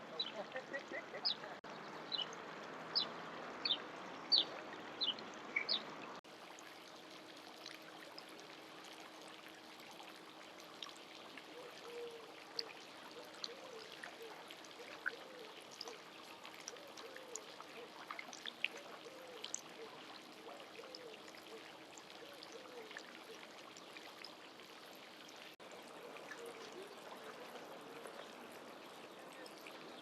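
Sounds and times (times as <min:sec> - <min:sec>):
faint outdoor background: 0:00.0 - 0:30.0
water pouring and trickling: 0:01.6 - 0:30.0.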